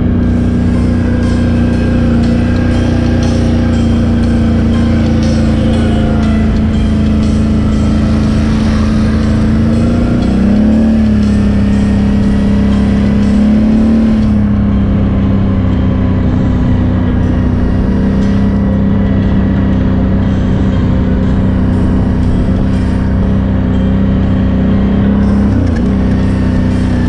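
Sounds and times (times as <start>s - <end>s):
quad bike engine running: 0.0s - 27.0s.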